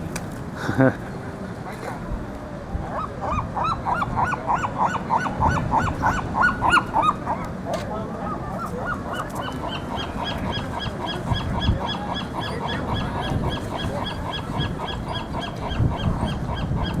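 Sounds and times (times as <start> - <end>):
wind noise: 1.9 - 17.0
seagulls squawking: 2.8 - 17.0.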